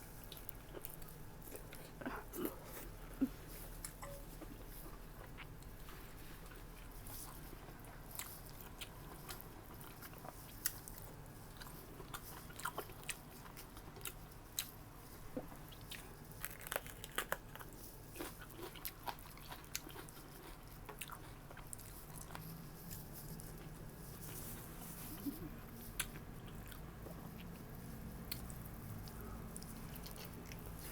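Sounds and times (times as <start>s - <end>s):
low steady hum: 0.0s - 30.9s
person chewing food: 0.2s - 30.9s.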